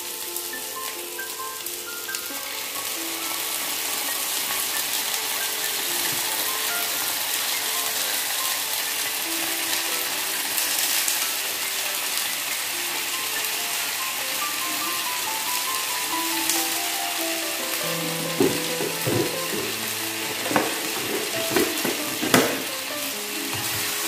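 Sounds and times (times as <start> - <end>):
sausage sizzling in wok: 0.0 - 24.0
soft melodic background music: 0.0 - 24.0.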